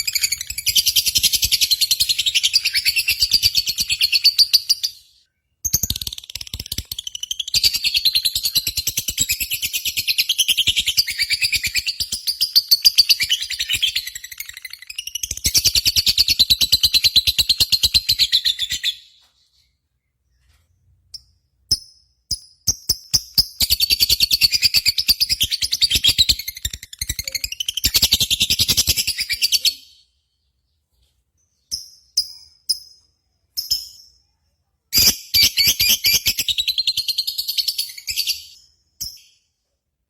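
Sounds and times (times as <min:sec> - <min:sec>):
small bird chattering song: 0:00.0 - 0:39.5.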